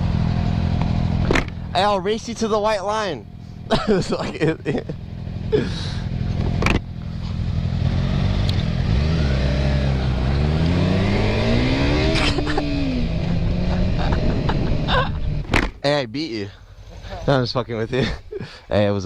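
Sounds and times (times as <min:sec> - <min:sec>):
motorcycle engine accelerating: 0:00.0 - 0:15.8.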